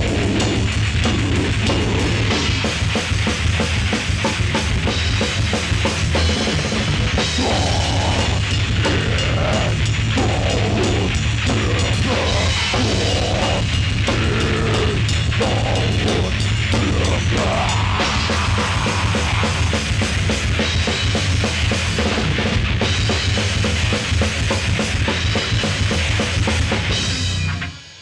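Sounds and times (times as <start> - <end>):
bass guitar: 0.0 - 28.0
distorted electric guitar: 0.0 - 28.0
fast drum kit strokes: 0.0 - 28.0.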